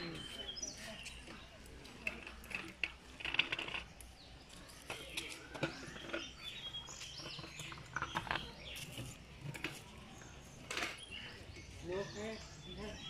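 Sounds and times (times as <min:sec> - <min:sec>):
birds chirping: 0:00.0 - 0:13.0
faint background noise: 0:00.0 - 0:13.0.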